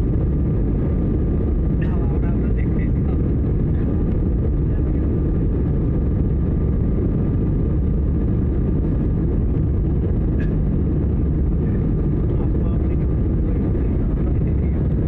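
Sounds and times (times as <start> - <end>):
faint steady whine: 0.0 - 15.0
jet engine rumble in cabin: 0.0 - 15.0.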